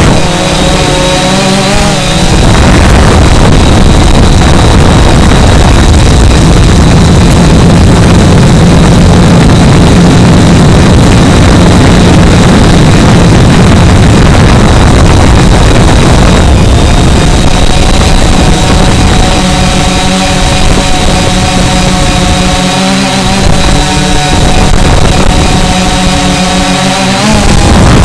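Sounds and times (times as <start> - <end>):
quadcopter motors droning: 0.0 - 28.0.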